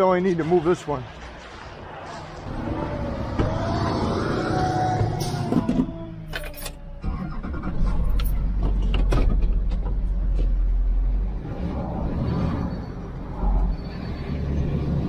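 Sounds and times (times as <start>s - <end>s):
truck engine starting and idling: 2.5s - 15.0s.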